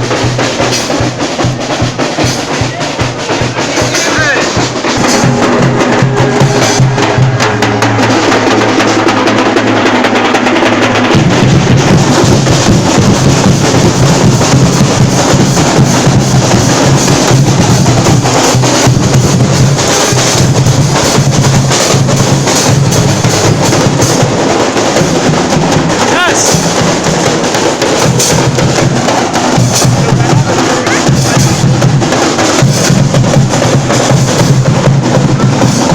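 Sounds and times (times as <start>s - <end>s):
low drum pulse: 0.0s - 35.9s
rapid drumming: 0.0s - 35.9s.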